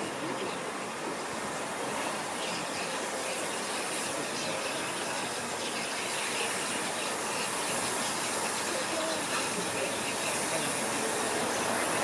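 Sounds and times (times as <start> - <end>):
steam locomotive hiss: 0.0 - 12.0.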